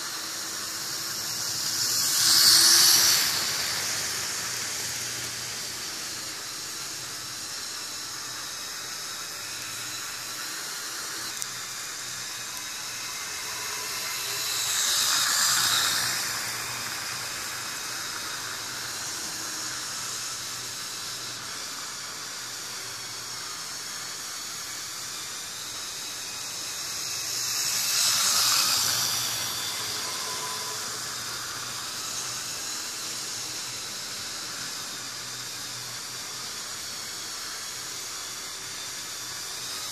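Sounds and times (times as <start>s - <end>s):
model train motor hum: 0.0s - 39.9s
model train wheels hissing on rails: 0.0s - 39.9s.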